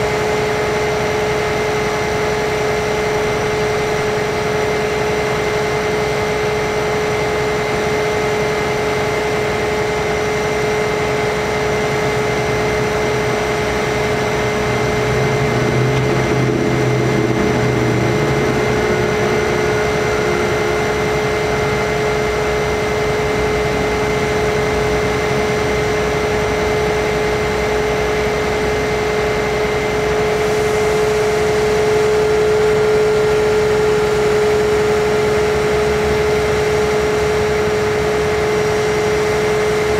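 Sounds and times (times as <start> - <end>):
diesel engine running: 0.0 - 39.9
hydraulic whine: 0.0 - 39.9.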